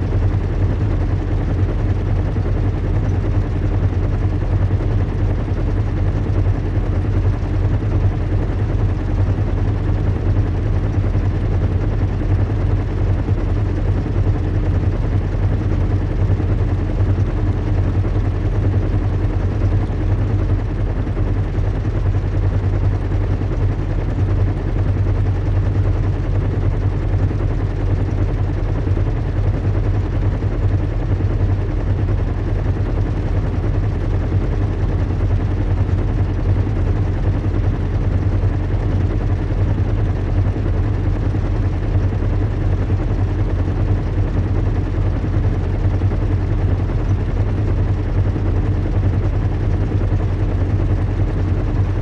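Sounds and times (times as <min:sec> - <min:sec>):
low engine drone: 0:00.0 - 0:52.0.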